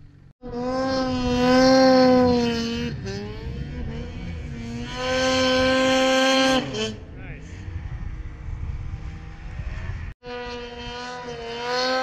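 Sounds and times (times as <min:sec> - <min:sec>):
snowmobile engine at high revs: 0:00.0 - 0:12.0.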